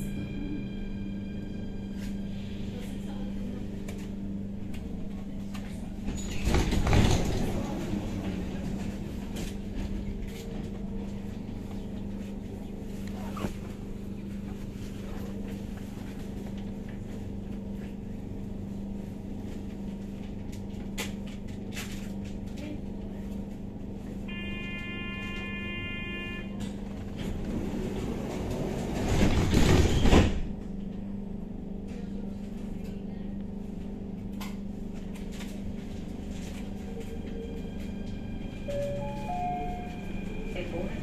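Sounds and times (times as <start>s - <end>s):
metro train running hum: 0.0s - 41.0s.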